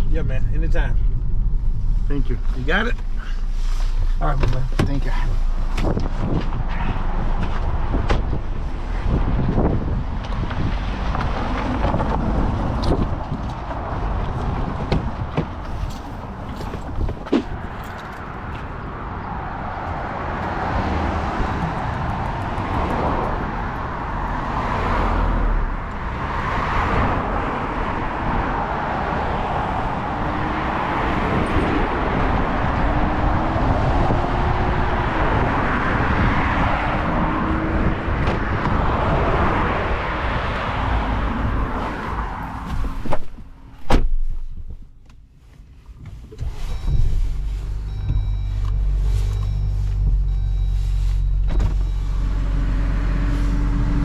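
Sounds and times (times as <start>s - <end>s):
road and traffic noise: 0.0s - 54.0s.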